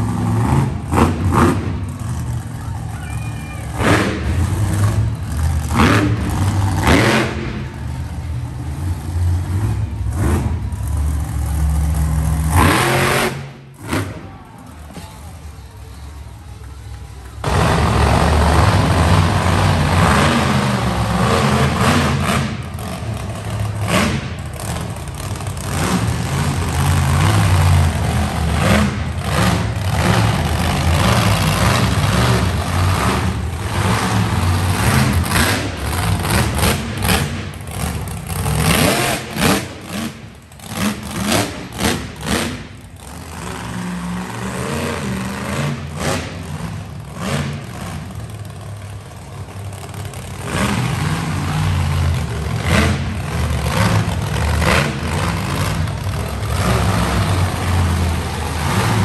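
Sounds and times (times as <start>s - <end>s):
truck engine revving: 0.0s - 3.0s, 3.7s - 59.0s.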